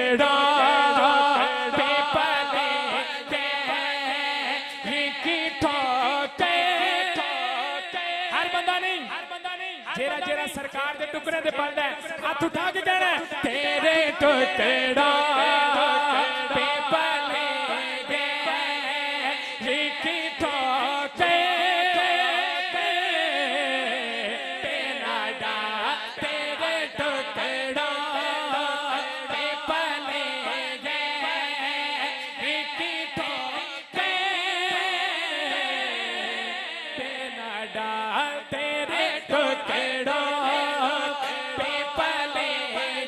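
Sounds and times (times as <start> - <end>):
man singing with vibrato: 0.0 - 43.0.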